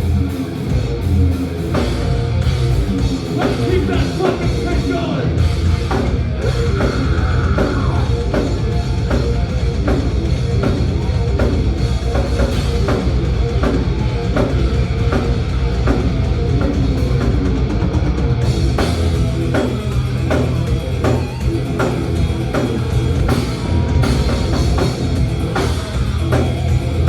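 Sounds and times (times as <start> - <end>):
distorted guitars and bass: 0.0 - 27.0
driving drum-kit hits: 0.0 - 27.0.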